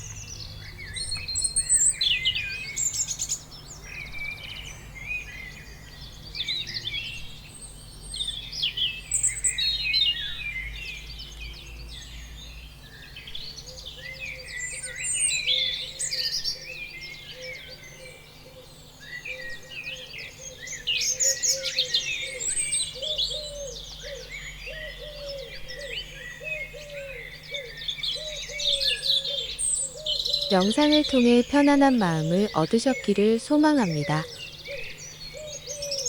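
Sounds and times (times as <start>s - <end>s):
birds chirping and trilling: 0.0s - 36.0s.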